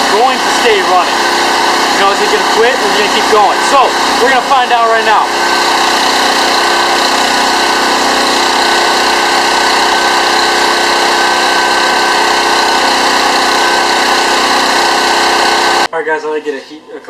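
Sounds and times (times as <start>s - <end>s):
small gasoline engine running: 0.0s - 15.9s.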